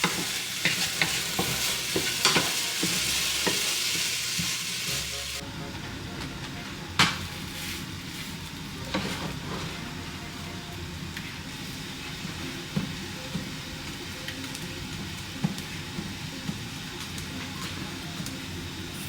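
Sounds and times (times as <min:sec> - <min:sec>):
food sizzling in a hot pan: 0:00.0 - 0:05.4, 0:06.9 - 0:09.6, 0:10.2 - 0:19.0.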